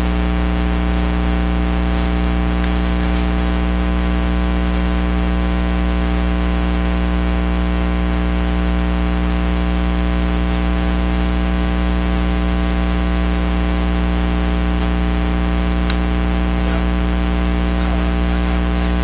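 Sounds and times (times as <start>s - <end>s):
electrical hum and buzz: 0.0s - 19.0s.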